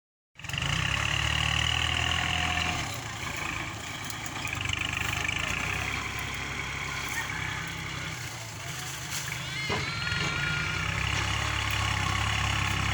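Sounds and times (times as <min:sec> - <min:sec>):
tractor diesel engine running: 0:00.4 - 0:12.9.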